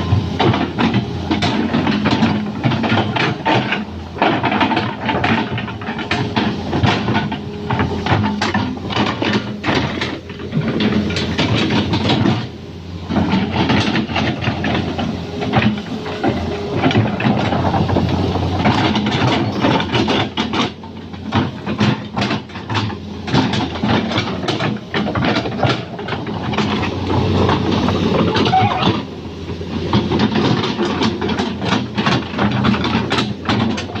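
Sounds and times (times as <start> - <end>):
excavator engine hum: 0.0 - 34.0
metallic clanks and knocks: 0.0 - 34.0.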